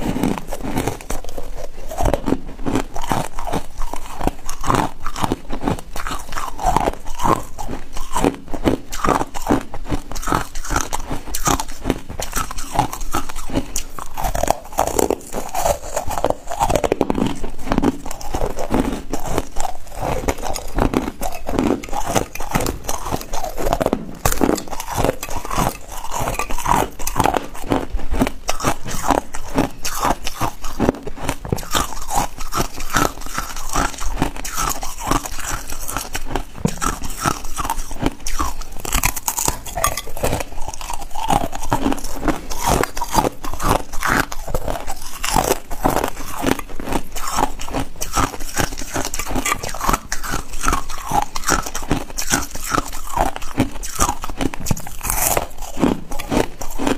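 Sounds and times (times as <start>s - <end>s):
ice being chewed: 0.0s - 56.9s.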